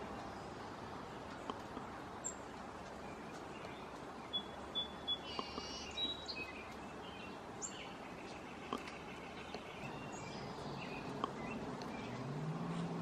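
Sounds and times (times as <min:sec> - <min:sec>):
background hiss: 0:00.0 - 0:13.0
small birds chirping: 0:00.0 - 0:13.0.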